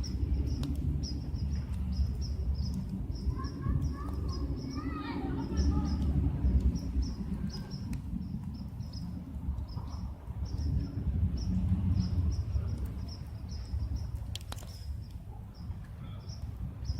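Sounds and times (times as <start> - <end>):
low rumble: 0.0 - 16.9
small birds chirping: 0.0 - 16.9.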